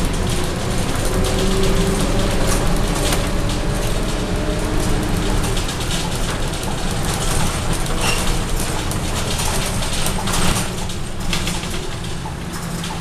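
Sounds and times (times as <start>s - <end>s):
bus diesel engine rumble: 0.0s - 13.0s
rattles and knocks from bus body: 0.0s - 13.0s.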